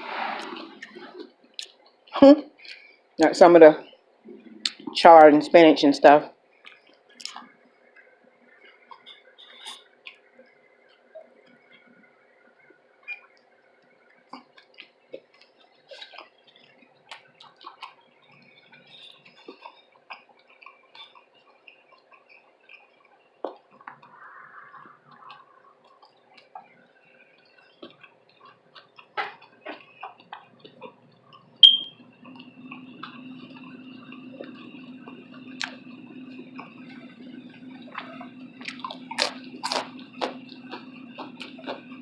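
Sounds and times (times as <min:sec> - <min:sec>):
low hum with high whine: 0:00.0 - 0:42.0
wet chewing: 0:06.6 - 0:42.0.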